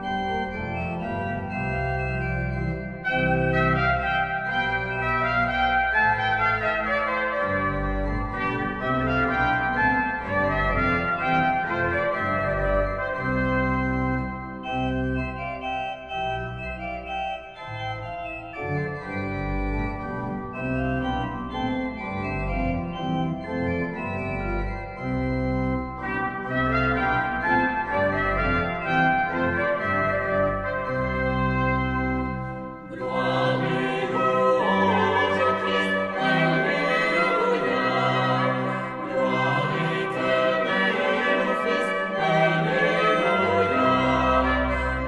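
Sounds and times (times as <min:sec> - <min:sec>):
organ playing slow chords: 0:00.0 - 0:45.0.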